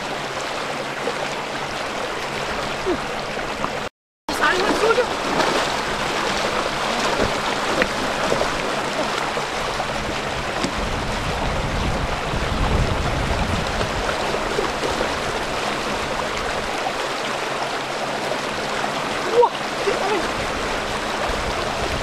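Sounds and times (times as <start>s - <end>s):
muddy water splashing: 0.0s - 22.0s.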